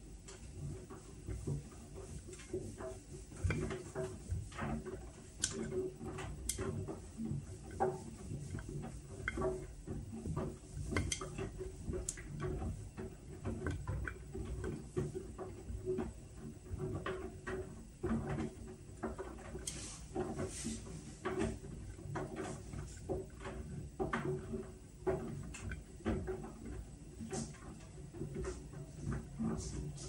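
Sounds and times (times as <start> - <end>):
washing machine motor hum: 0.0 - 30.0
machine clicks and knocks: 0.2 - 30.0.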